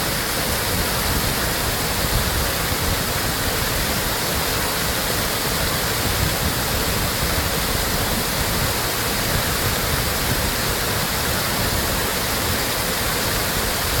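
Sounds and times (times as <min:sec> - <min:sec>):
water pouring down cascade: 0:00.0 - 0:14.0.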